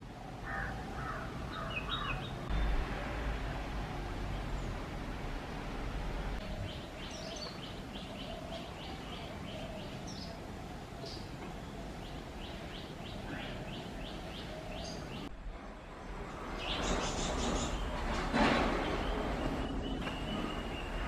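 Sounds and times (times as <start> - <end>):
small birds chirping: 0.4 - 5.2, 6.4 - 21.0.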